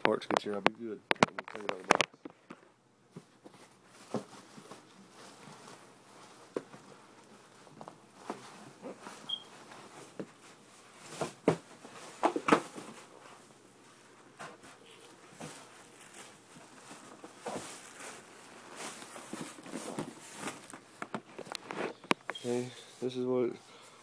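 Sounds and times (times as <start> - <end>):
cardboard packaging rustling: 0.0 - 2.5, 3.4 - 23.1.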